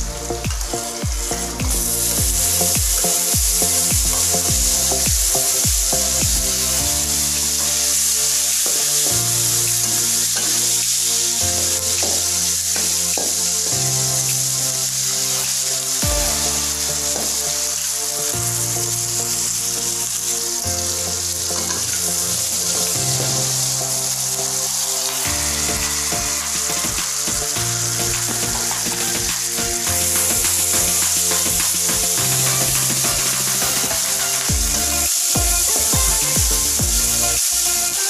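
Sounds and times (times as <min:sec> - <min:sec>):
background music with bass line: 0:00.0 - 0:08.2, 0:09.0 - 0:10.7, 0:11.3 - 0:38.0
food sizzling in hot oil: 0:01.8 - 0:38.0.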